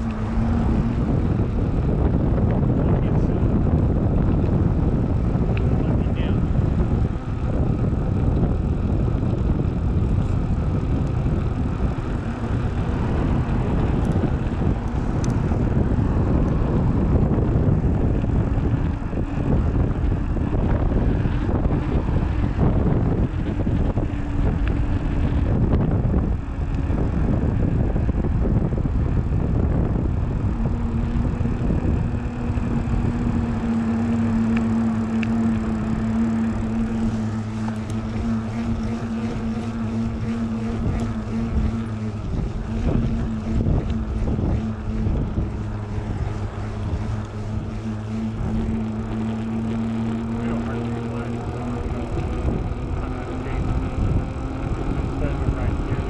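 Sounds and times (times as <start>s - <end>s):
tyre rolling hum: 0.0s - 56.0s
wind rumble on microphone: 0.0s - 56.0s.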